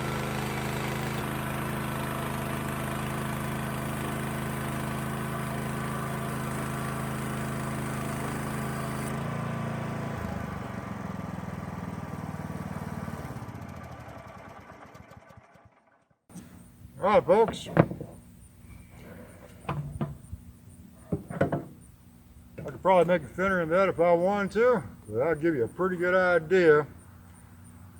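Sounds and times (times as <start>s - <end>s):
sawmill engine running: 0.0s - 21.9s, 22.5s - 27.3s.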